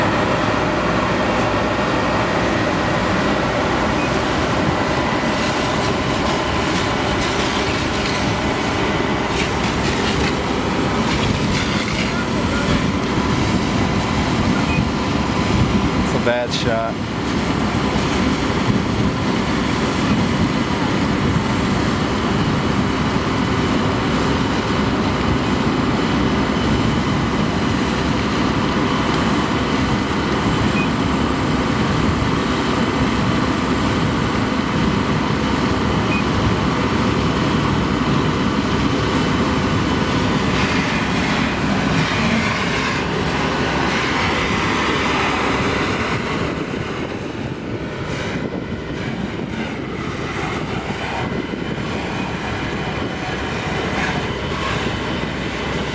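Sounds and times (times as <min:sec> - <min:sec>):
heavy machinery engine rushing: 0:00.0 - 0:55.9.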